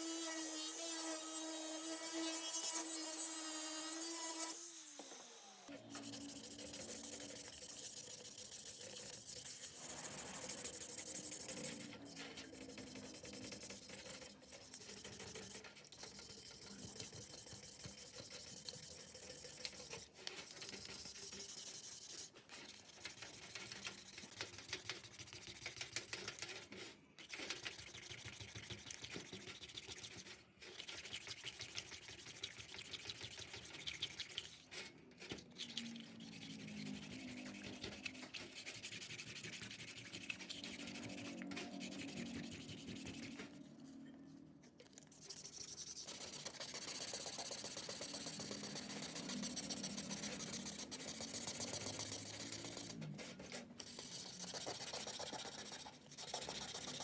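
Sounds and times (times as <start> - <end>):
rubbing and scraping: 5.8 - 44.2, 45.1 - 57.0.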